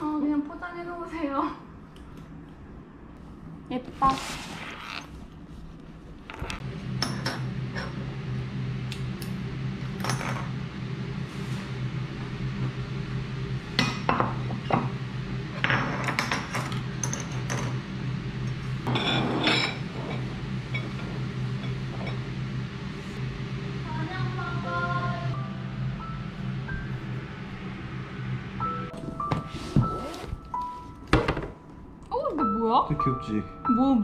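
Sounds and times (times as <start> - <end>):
low hum: 4.9 - 32.1.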